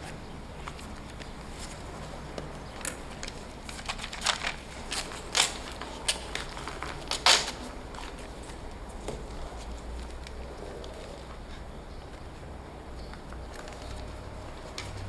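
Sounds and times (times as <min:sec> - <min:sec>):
banknotes rustling and flicking: 0:00.0 - 0:15.0.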